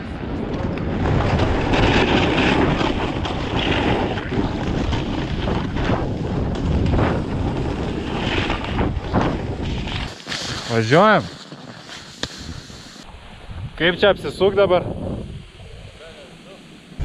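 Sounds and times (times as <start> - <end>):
wind rushing over microphone: 0.0 - 11.3, 12.0 - 17.0.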